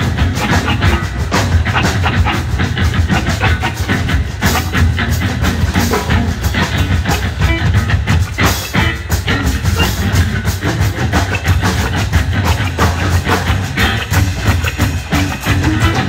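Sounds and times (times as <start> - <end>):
distorted electric guitar: 0.0 - 16.0
drum kit playing: 0.0 - 16.0.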